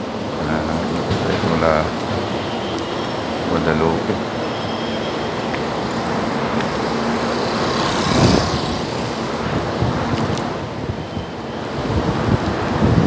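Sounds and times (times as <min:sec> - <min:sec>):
rumble of passing cars: 0:00.0 - 0:13.0.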